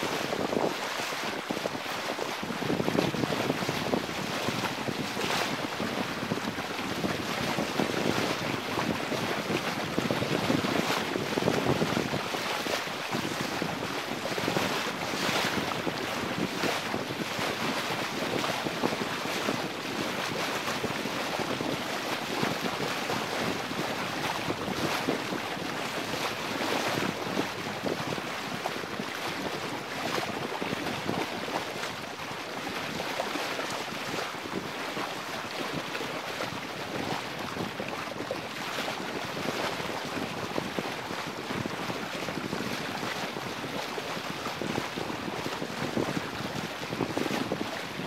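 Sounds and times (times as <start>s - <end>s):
water rushing along boat hull: 0.0s - 48.0s
wind buffeting microphone: 0.0s - 48.0s.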